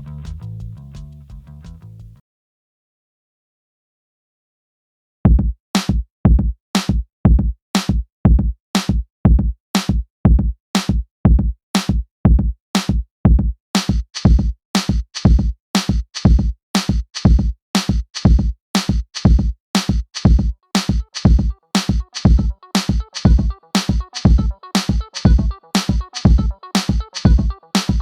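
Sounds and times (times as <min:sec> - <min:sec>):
drum-machine beat: 0:05.3 - 0:28.0.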